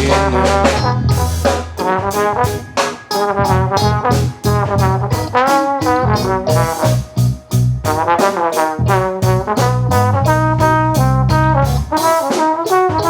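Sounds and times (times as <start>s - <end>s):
bass: 0.0s - 2.8s, 3.4s - 12.2s
brass horns melody: 0.0s - 13.0s
drum hits: 0.0s - 13.0s.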